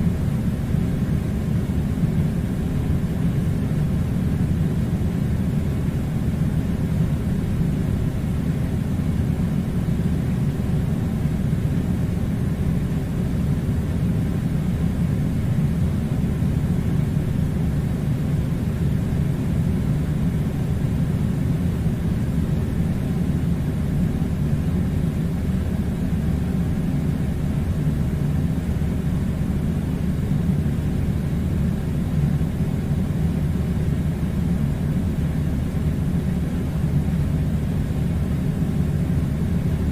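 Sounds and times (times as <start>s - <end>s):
low machine rumble: 0.0s - 39.9s.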